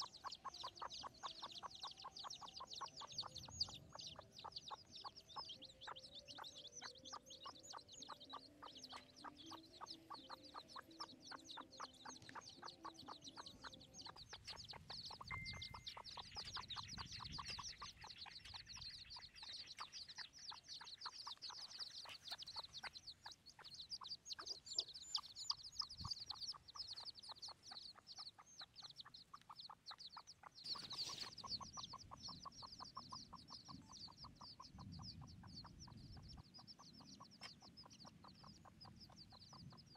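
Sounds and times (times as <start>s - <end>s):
chicks peeping: 0.0s - 39.9s
hen clucking softly: 0.0s - 39.9s.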